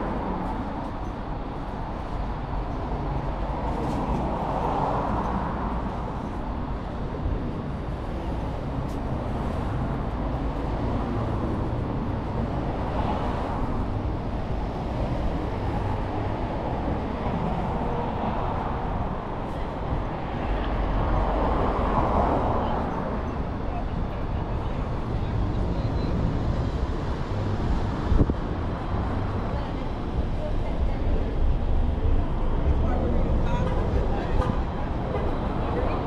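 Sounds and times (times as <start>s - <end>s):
road traffic hum: 0.0s - 36.0s.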